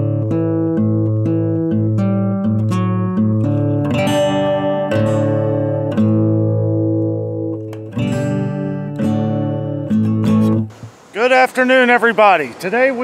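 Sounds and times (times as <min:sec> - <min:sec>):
strummed guitar chords: 0:00.0 - 0:11.0.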